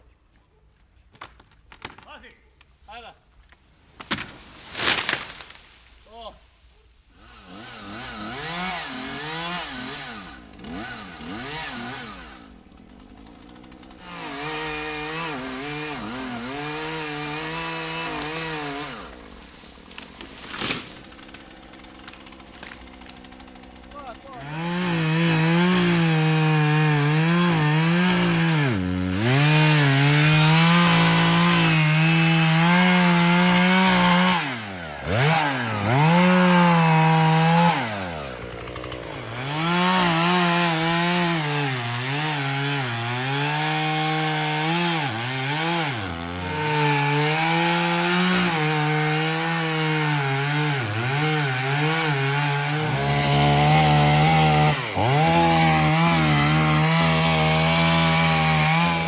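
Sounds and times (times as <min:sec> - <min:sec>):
chainsaw cutting wood: 0:03.9 - 0:06.2, 0:07.1 - 0:59.0.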